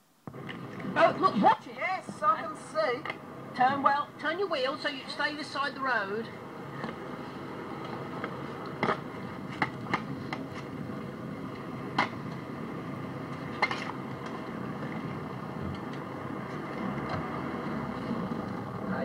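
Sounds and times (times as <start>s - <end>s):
car cabin road and engine noise: 0.2s - 19.0s.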